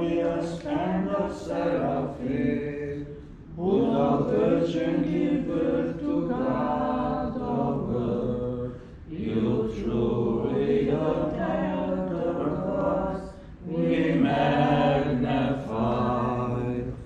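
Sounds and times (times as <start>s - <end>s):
voices chanting a prayer: 0.0s - 17.0s.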